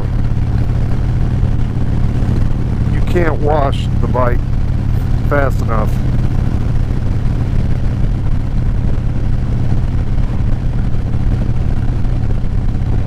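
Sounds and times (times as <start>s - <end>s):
motorcycle engine running: 0.0s - 13.0s
wind rush: 0.0s - 13.0s.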